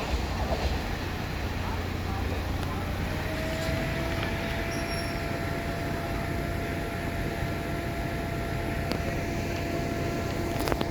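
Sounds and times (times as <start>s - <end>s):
train running: 0.0s - 10.9s.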